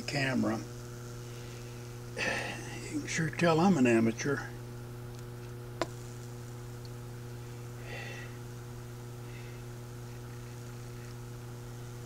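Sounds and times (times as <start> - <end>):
transformer electrical hum: 0.0 - 12.0.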